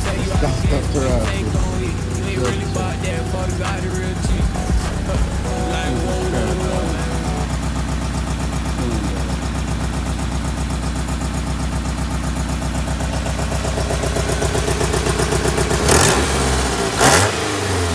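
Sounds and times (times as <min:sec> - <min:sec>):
car engine pulsing: 0:00.0 - 0:17.9.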